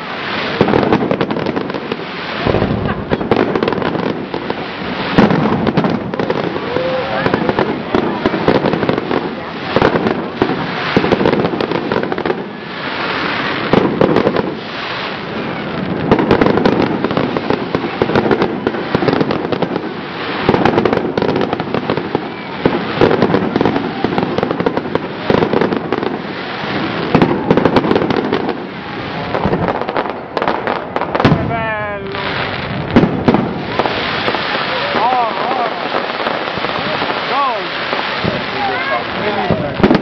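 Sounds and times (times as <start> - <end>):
fireworks crackling and banging: 0.0 - 40.0.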